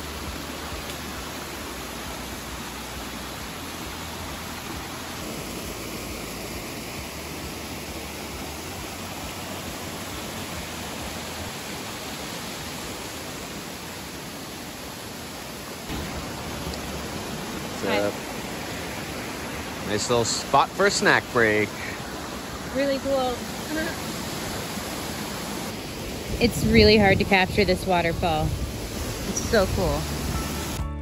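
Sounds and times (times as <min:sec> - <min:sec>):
waterfall rushing: 0:00.0 - 0:30.8.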